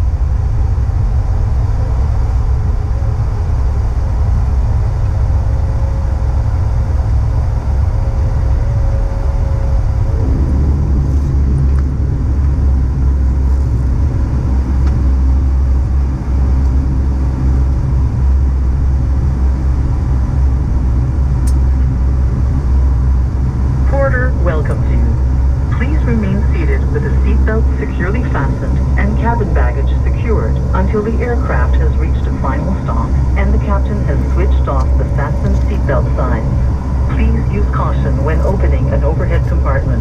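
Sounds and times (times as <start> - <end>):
thin steady whine: 0.0 - 40.0
turboprop engines droning: 0.0 - 40.0.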